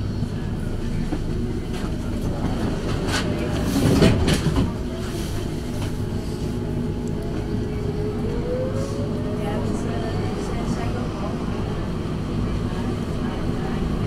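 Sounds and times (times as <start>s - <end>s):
tram electrical hum: 0.0s - 14.0s.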